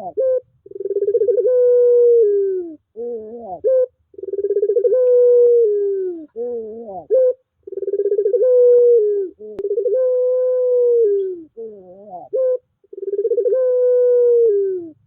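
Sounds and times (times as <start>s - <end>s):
turtle dove cooing: 0.0s - 15.0s.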